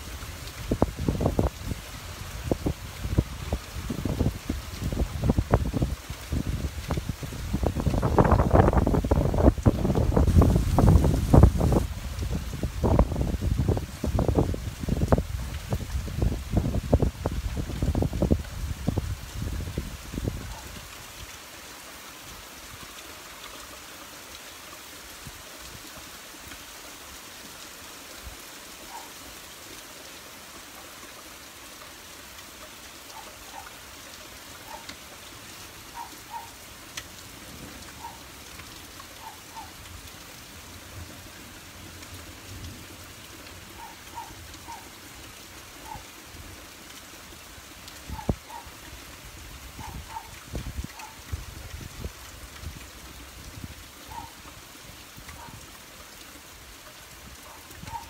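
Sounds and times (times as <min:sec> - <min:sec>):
rain on wet pavement: 0:00.0 - 0:58.0.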